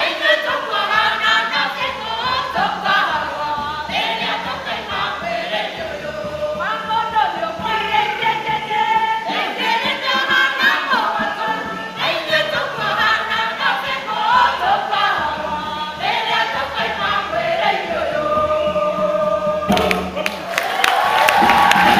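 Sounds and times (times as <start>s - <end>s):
choir singing: 0.0s - 20.6s.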